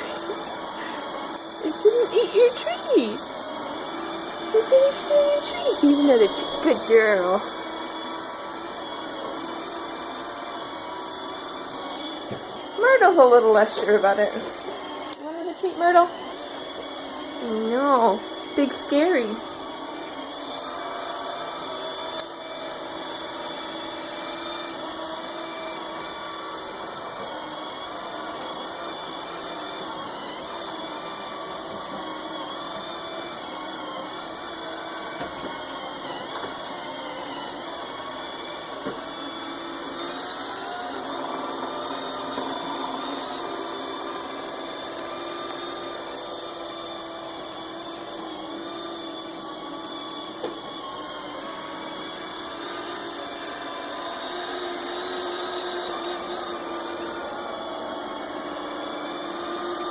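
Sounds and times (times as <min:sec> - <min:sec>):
robot vacuum whirring: 0:00.0 - 0:59.9.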